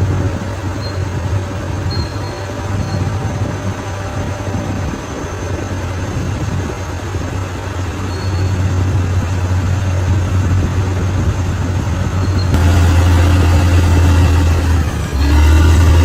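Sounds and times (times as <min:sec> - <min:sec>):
bulldozer diesel engine drone: 0:00.0 - 0:16.0.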